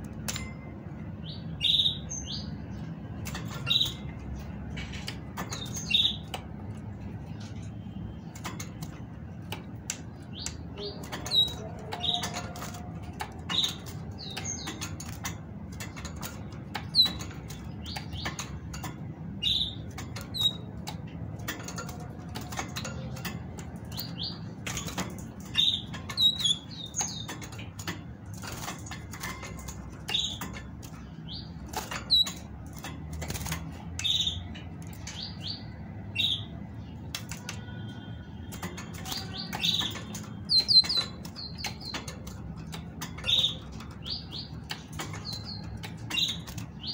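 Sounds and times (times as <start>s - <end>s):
sharp clicks in cage: 0.0s - 46.9s
bird chirping: 0.6s - 46.9s.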